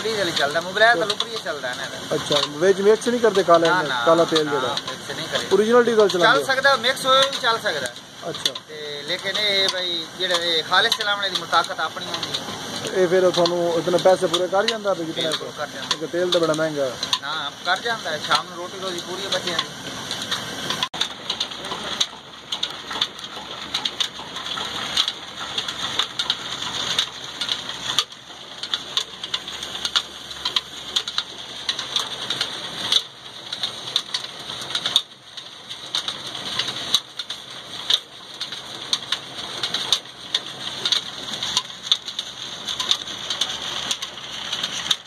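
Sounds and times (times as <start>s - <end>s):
pulleys and belts whirring: 0.0s - 45.0s
rapid irregular belt clicks: 0.0s - 45.0s.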